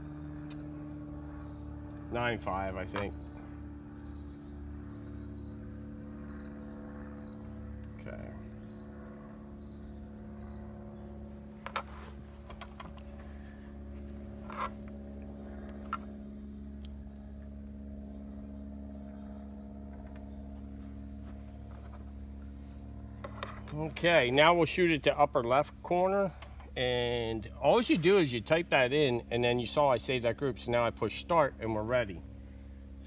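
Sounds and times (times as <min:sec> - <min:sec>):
insect chorus chirring: 0:00.0 - 0:33.0.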